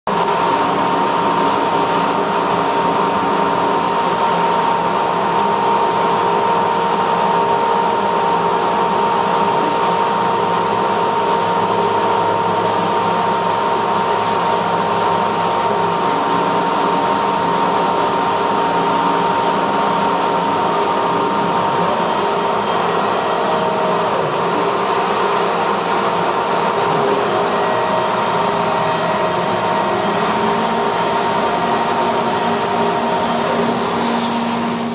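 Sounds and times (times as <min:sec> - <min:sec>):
router motor with high whine: 0:00.2 - 0:34.9.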